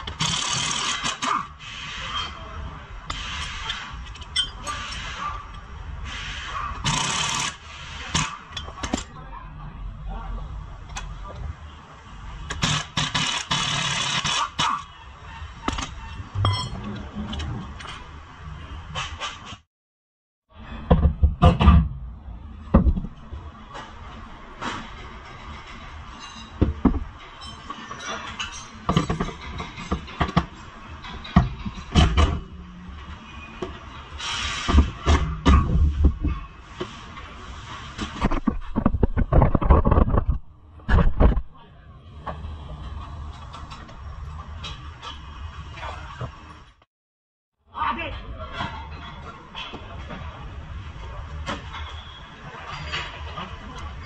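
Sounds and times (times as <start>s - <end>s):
workshop background noise: 0.0s - 19.7s, 20.5s - 46.9s, 47.8s - 54.0s.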